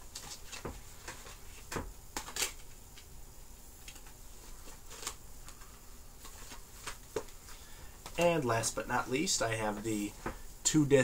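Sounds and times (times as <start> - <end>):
cd packaging clicks and rustles: 0.0 - 3.2, 3.8 - 10.5.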